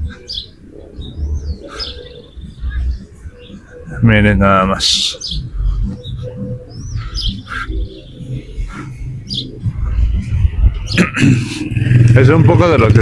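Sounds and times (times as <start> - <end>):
bird chirps: 0.0 - 11.9
steady low rumble: 0.0 - 13.0.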